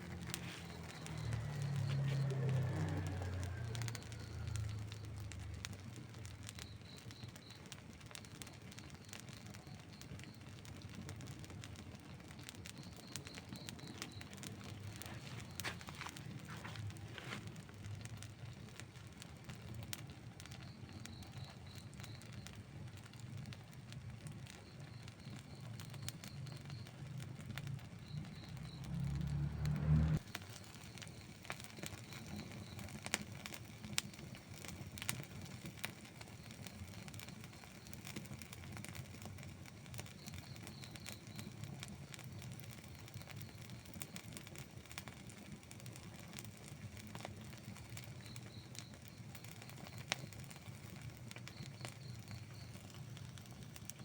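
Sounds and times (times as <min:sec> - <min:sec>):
fire sharp pops: 0:00.0 - 0:54.0
wood fire crackling: 0:00.0 - 0:54.0.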